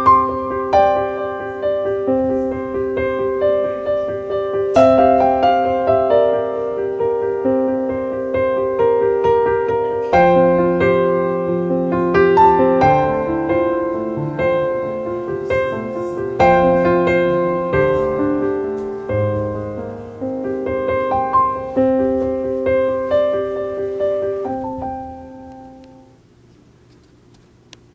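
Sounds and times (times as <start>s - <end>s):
background piano music: 0.0s - 26.2s.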